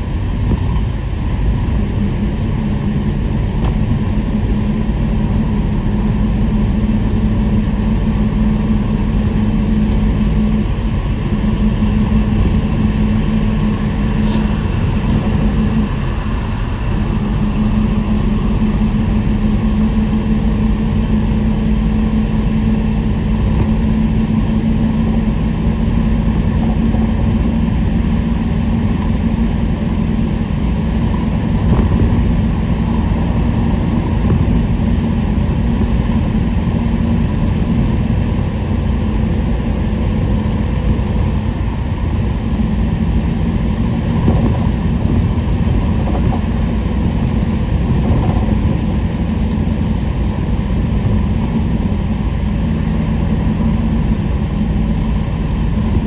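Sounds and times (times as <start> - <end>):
engine hum: 0.0 - 56.0.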